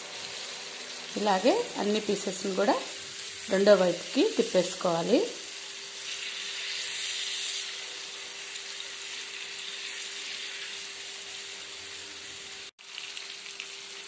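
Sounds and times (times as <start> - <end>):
fish sizzling in frying pan: 0.0 - 14.0.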